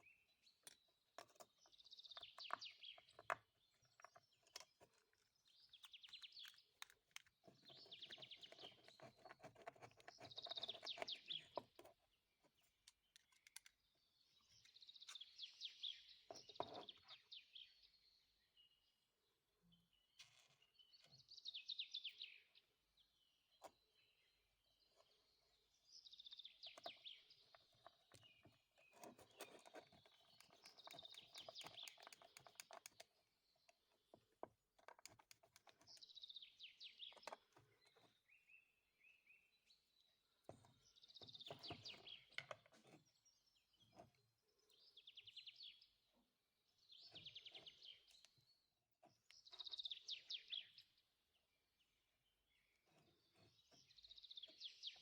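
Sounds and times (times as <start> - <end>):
faint trilled bird song: 0.0 - 55.0.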